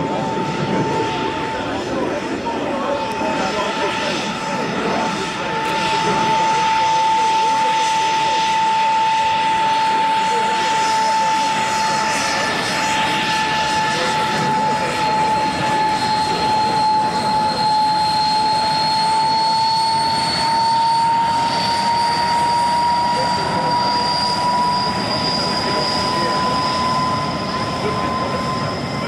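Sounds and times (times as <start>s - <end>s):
jet engine whine and roar: 0.0s - 29.0s.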